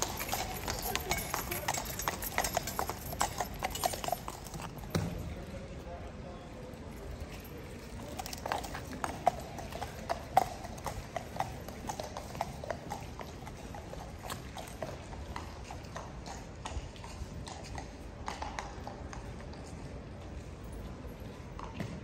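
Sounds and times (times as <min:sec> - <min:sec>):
hooves clip-clopping on stone: 0:00.0 - 0:05.3, 0:06.8 - 0:22.0.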